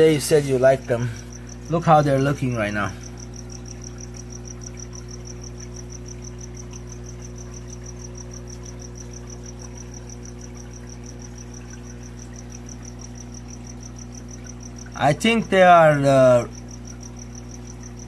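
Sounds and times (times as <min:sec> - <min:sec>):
aquarium pumps humming: 0:00.0 - 0:18.0.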